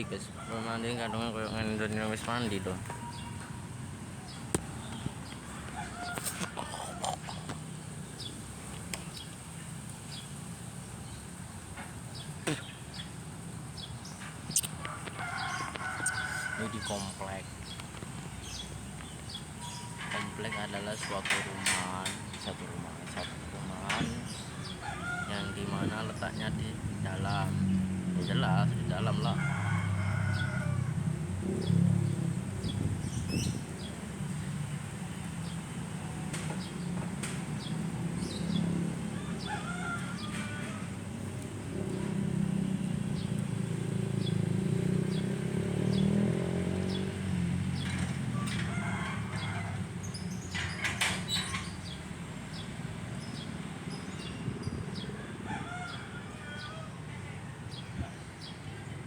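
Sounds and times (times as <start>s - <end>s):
small birds chirping: 0.0s - 30.7s, 31.3s - 56.8s.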